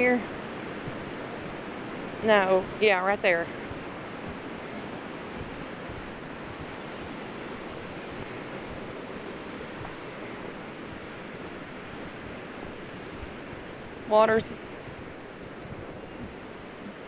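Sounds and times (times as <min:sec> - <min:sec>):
rushing floodwater: 0:00.0 - 0:17.0
wind buffeting microphone: 0:00.0 - 0:17.0.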